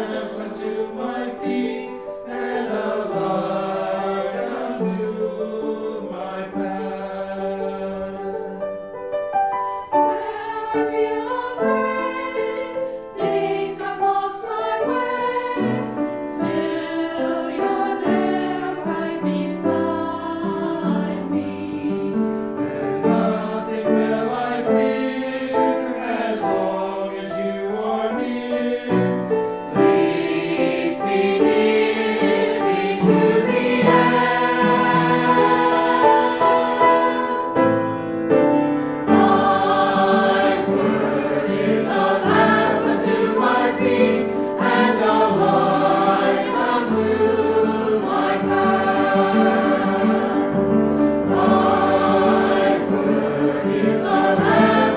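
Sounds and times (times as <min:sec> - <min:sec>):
choir singing a hymn: 0:00.0 - 0:09.0, 0:09.7 - 0:54.9.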